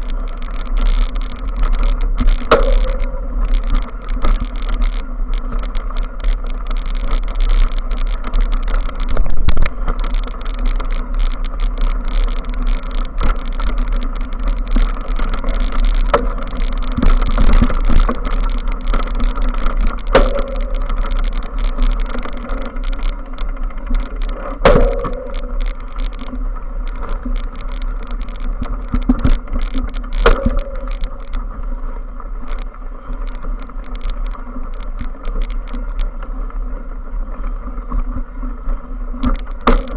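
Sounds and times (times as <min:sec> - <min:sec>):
bike knocking and clicking: 0:00.0 - 0:39.9
tyre and wind noise: 0:00.0 - 0:39.9.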